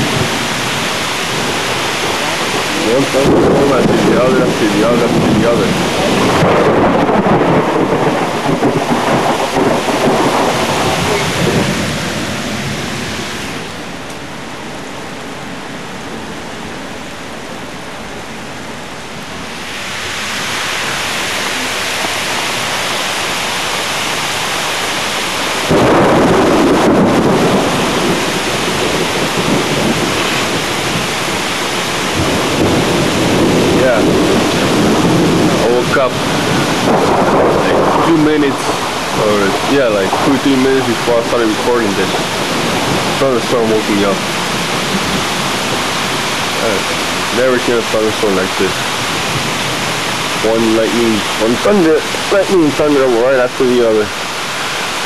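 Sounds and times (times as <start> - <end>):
loud thunderclap: 0.0 - 13.8, 20.1 - 55.0
thunder rolling: 0.0 - 14.0, 19.3 - 55.0
steady rain: 0.0 - 55.0.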